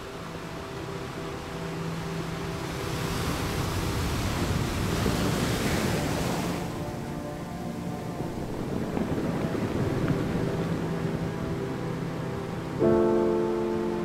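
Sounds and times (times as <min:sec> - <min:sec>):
soft sustained music tones: 0:00.0 - 0:14.0
waves breaking: 0:00.0 - 0:14.0.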